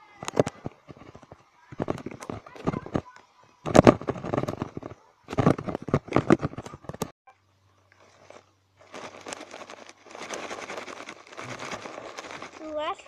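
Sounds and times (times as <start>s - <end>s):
dry grass rustling and crackling: 0.0s - 7.1s, 7.8s - 13.0s.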